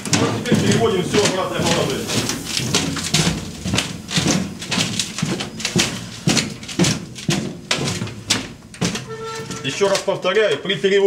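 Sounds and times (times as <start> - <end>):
footsteps on floor: 0.0 - 10.4.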